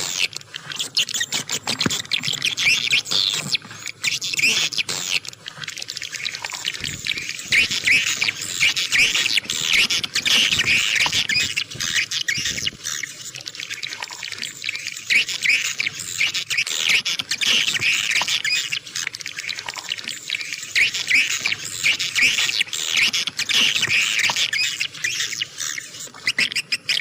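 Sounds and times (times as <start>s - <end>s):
swiftlets twittering: 0.0s - 27.0s.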